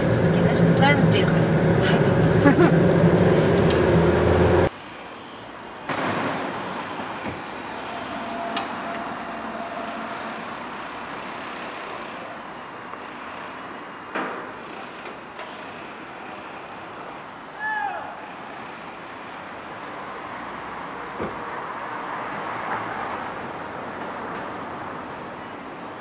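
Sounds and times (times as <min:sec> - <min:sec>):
car engine and road noise: 0:00.0 - 0:17.6, 0:18.2 - 0:26.0
steady outdoor hiss: 0:00.0 - 0:22.6.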